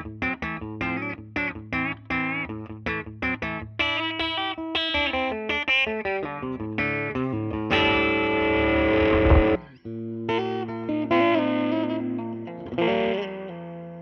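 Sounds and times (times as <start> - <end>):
electric guitar notes and chord: 0.0 - 14.0.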